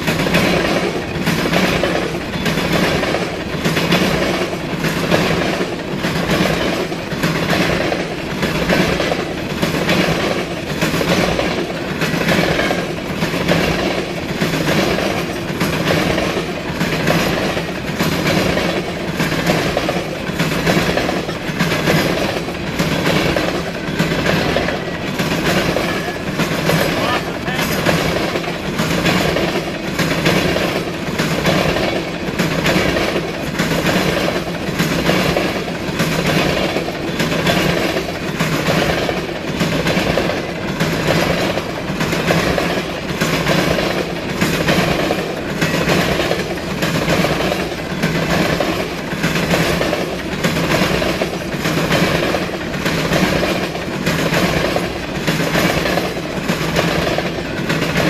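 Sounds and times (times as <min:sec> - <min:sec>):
freight train rolling past: 0:00.0 - 0:58.0
wheels clacking over rails: 0:00.0 - 0:58.0.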